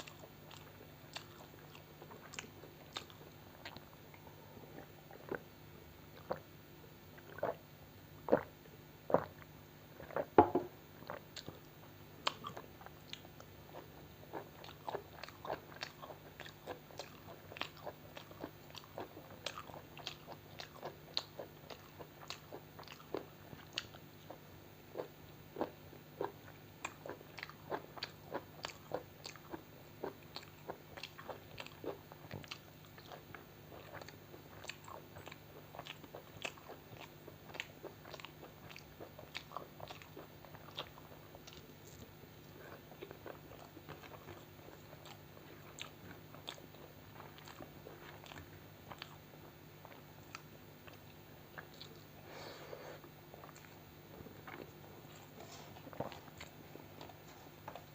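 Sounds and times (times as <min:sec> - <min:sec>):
chewing and biting food: 0:00.0 - 0:05.5, 0:06.1 - 0:06.4, 0:08.2 - 0:52.2, 0:53.0 - 0:57.9.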